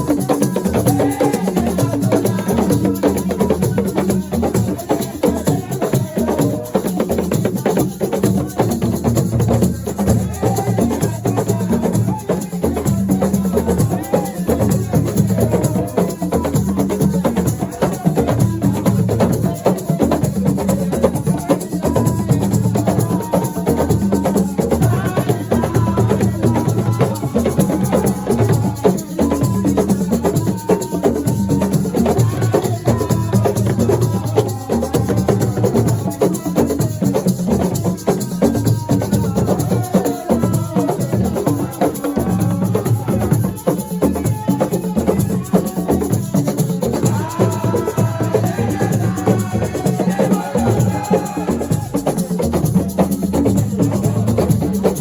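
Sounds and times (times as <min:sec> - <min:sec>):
hand percussion beat: 0:00.0 - 0:55.0.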